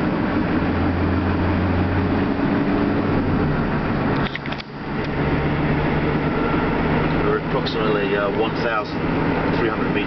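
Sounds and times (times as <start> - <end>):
road and engine noise: 0.0 - 10.0.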